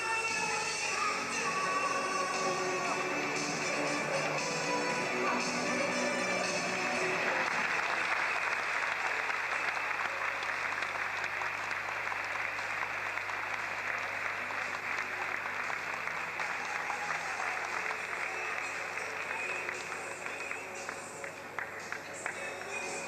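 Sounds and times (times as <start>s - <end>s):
music: 0.0s - 23.0s
audience applauding: 1.3s - 23.0s.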